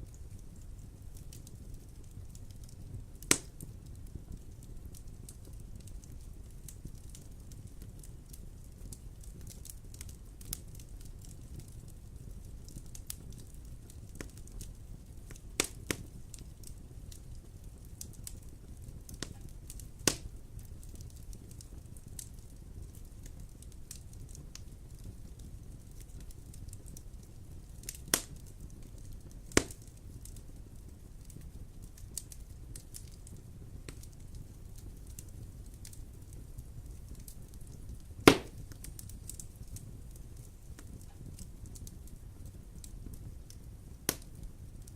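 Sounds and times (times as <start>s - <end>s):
wood fire crackling: 0.0s - 44.9s
sharp fire pops: 0.1s - 44.9s.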